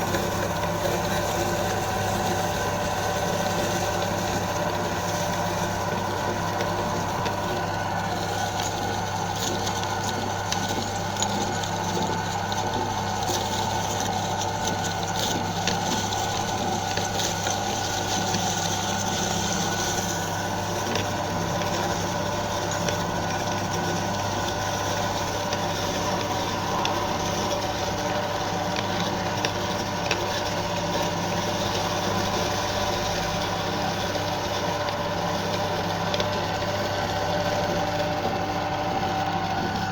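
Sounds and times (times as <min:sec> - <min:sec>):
meat grinder motor humming: 0:00.0 - 0:39.9.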